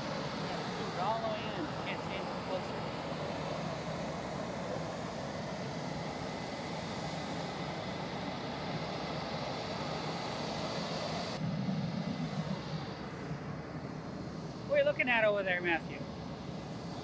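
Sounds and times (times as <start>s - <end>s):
jet engine running: 0.0s - 17.0s.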